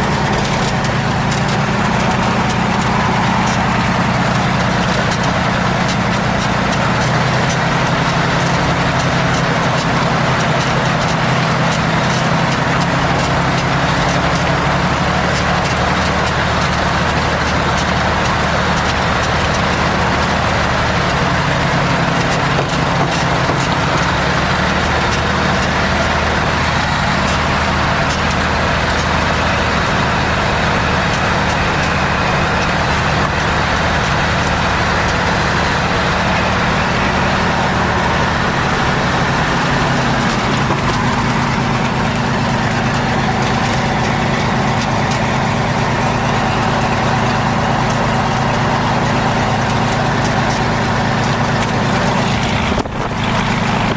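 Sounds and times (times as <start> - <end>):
light aircraft engine running: 0.0 - 53.9.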